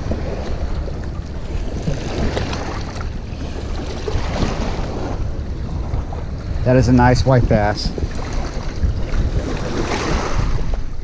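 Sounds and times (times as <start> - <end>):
river waves lapping on rocks: 0.0 - 5.9, 6.6 - 10.9
wind buffeting microphone: 0.0 - 11.0.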